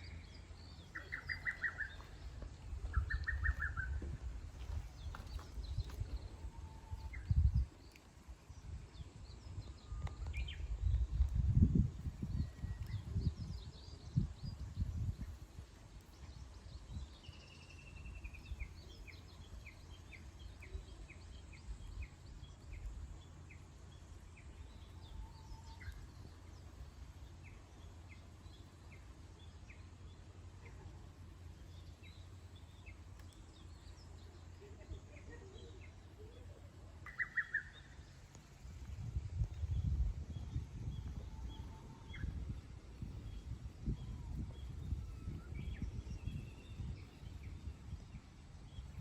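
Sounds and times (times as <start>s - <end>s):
birds singing: 0.0s - 11.6s, 12.2s - 49.0s
low background rumble: 0.0s - 49.0s.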